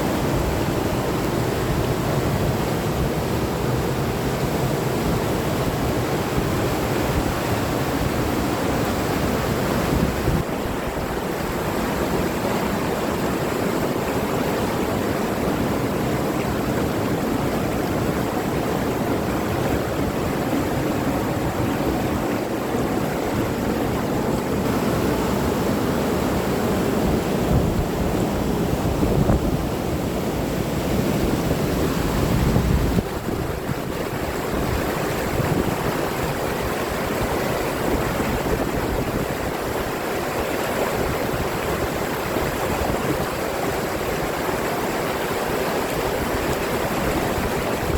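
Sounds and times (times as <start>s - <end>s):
rush of water and wind: 0.0s - 47.9s.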